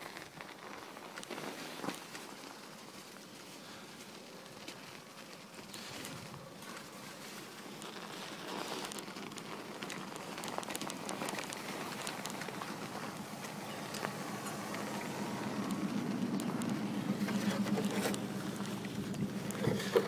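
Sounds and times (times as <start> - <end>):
crackles and clicks: 0.0 - 20.0
footsteps crunching through snow: 0.0 - 20.0.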